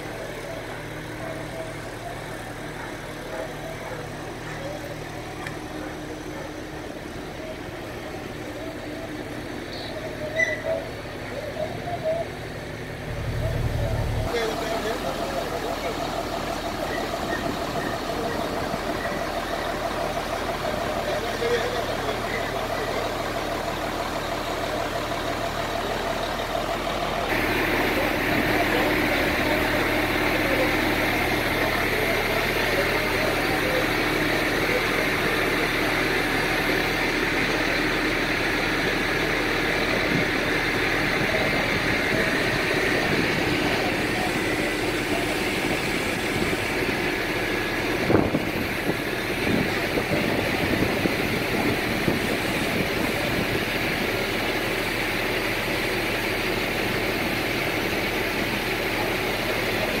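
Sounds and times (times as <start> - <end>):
heavy diesel engine running: 0.0 - 60.0.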